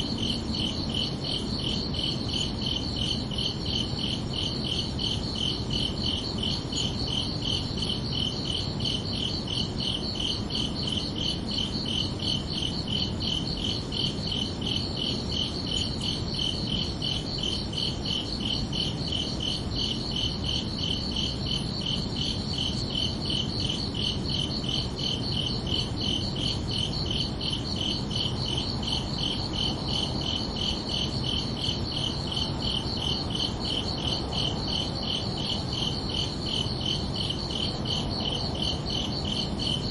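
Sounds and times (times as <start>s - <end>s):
crickets chirping: 0.0s - 39.9s
low background hiss: 0.0s - 39.9s.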